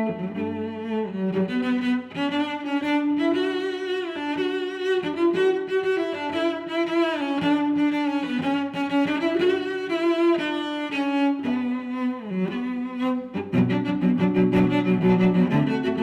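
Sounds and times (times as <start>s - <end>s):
slow bowed string melody: 0.0s - 16.0s.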